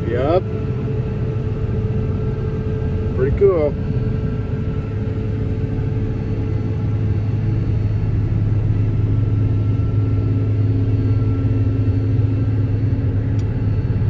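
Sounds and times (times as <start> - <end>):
faint steady whines: 0.0 - 14.0.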